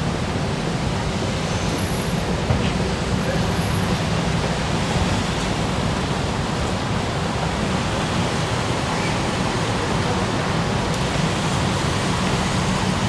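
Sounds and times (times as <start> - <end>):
rushing train platform ambience: 0.0 - 13.0.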